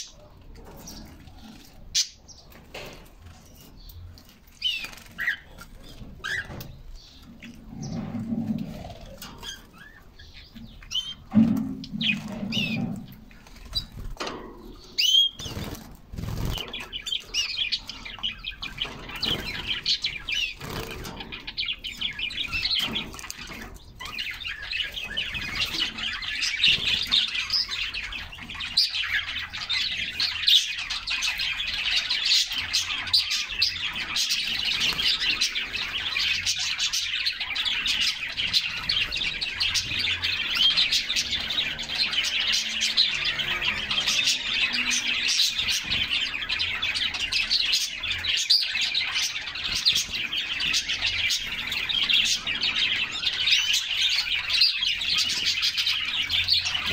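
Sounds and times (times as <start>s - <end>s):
canaries chirping: 0.0s - 56.9s
canary warbling song: 0.0s - 56.9s.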